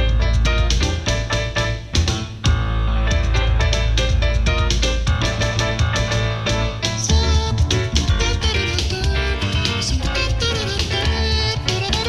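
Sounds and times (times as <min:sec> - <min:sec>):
song with drums and deep bass: 0:00.0 - 0:12.0.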